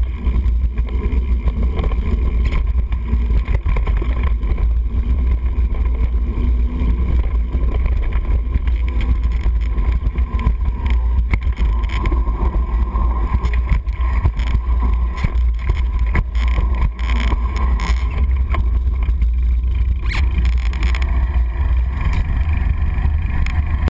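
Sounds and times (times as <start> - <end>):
wind rumbling on microphone: 0.0 - 23.9.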